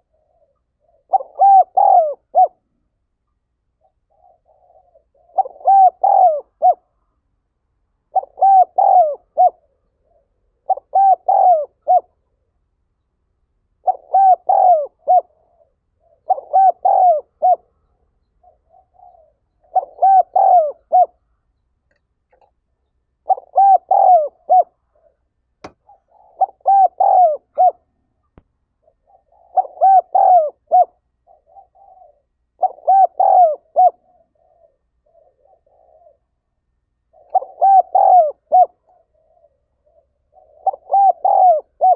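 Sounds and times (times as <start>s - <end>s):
dove cooing: 0.0s - 3.0s, 3.7s - 7.2s, 8.0s - 12.5s, 13.8s - 21.4s, 23.2s - 41.9s.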